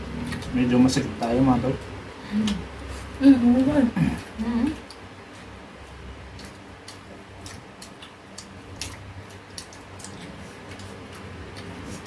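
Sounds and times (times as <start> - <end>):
faint low hum: 0.0 - 12.0
people chewing and mouth clicks: 0.0 - 12.0.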